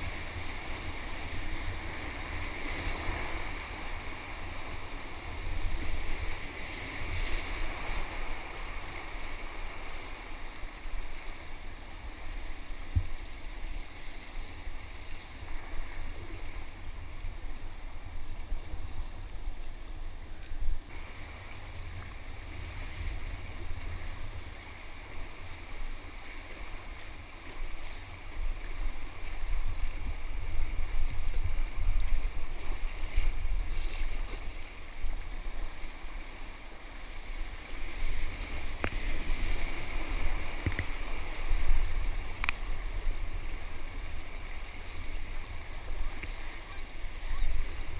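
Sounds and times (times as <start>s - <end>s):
whitewater rushing and splashing: 0.0s - 47.9s.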